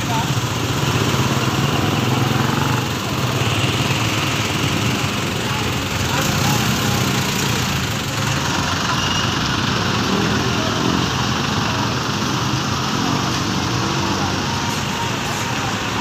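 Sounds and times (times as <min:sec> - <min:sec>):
diesel engine passing close by: 0:00.0 - 0:16.0
motorcycles: 0:00.0 - 0:16.0
street traffic: 0:00.0 - 0:16.0.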